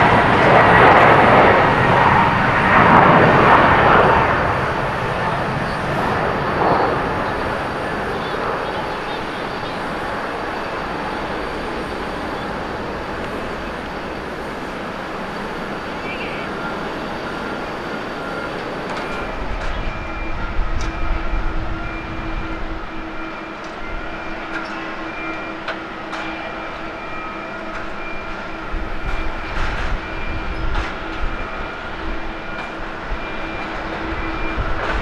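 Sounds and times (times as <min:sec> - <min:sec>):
jet engines whining: 0:00.0 - 0:35.0
jet roar: 0:00.0 - 0:35.0.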